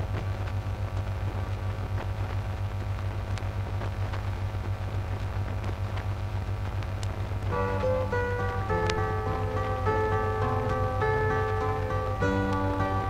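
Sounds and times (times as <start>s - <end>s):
low hum: 0.0s - 13.0s
vinyl surface noise clicks: 0.1s - 13.0s.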